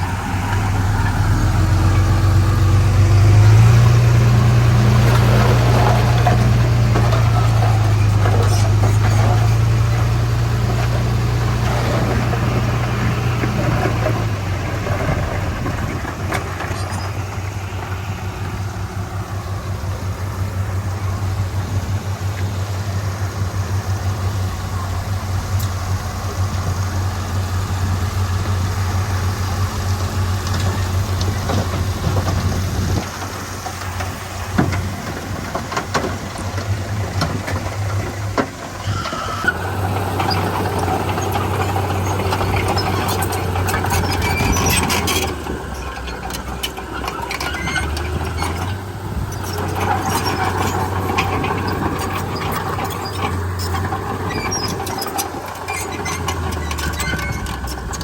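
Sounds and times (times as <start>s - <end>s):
bulldozer diesel engine running: 0.0s - 58.0s
tracks squealing: 0.0s - 58.0s.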